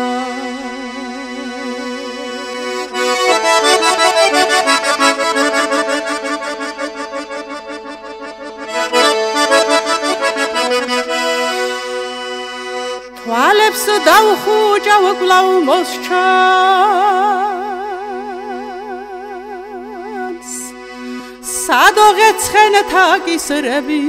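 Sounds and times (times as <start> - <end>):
accordion playing: 0.0 - 24.0.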